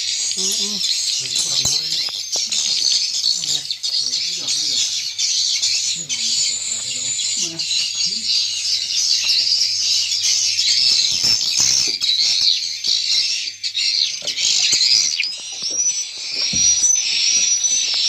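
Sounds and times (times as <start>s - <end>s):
swiftlets twittering: 0.0s - 18.0s.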